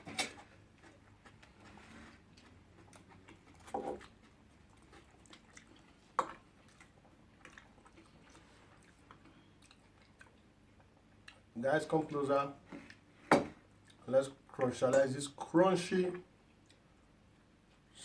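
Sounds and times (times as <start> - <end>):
quiet chewing: 0.3 - 14.8, 16.3 - 18.0.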